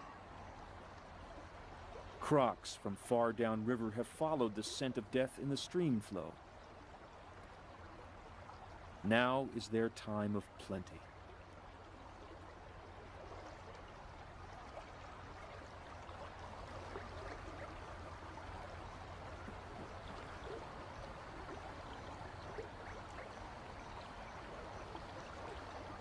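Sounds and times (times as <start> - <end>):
river water flowing: 0.0 - 26.0
small water splashes: 4.2 - 26.0.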